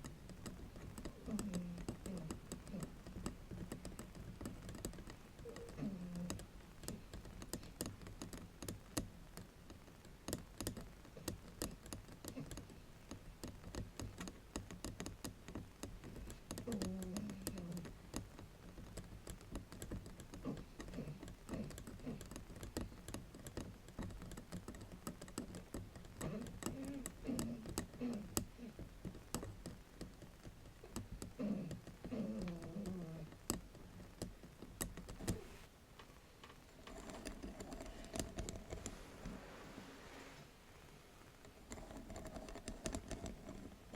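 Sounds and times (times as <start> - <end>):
fingers tapping on bamboo mat: 0.0 - 40.4, 41.5 - 43.9.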